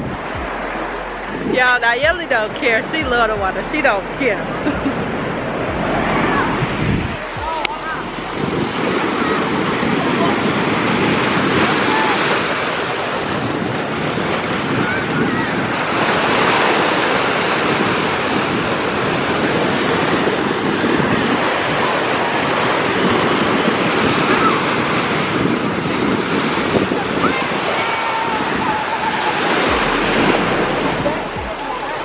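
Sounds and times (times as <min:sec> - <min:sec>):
waves breaking on beach: 0:00.0 - 0:32.0
wind buffeting microphone: 0:00.0 - 0:32.0.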